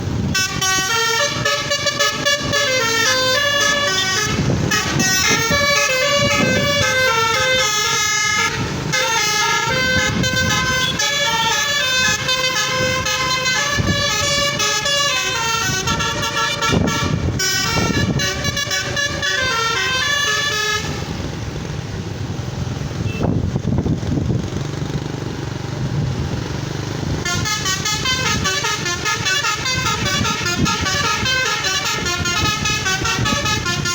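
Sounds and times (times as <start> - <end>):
multi-tone bus horn melody: 0.0 - 21.5, 23.0 - 23.4, 27.0 - 33.9
engine noise: 0.0 - 33.9
road noise: 0.0 - 33.9.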